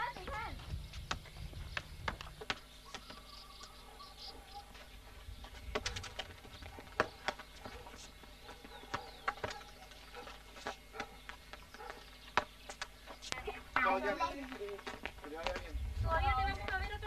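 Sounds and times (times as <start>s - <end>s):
faint bird chirps: 0.0s - 14.4s
children's footsteps on paving: 0.0s - 17.0s.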